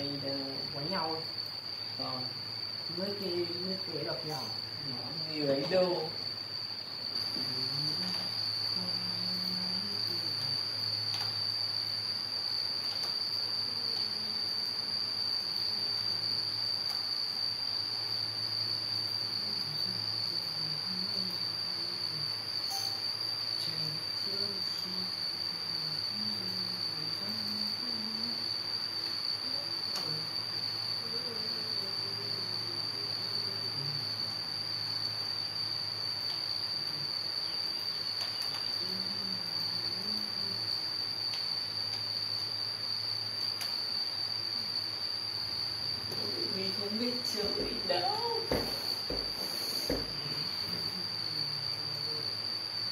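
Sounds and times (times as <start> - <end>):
high-pitched whine: 0.0 - 17.4, 18.0 - 43.8
low steady hum: 0.0 - 49.0
insects trilling: 0.0 - 52.9.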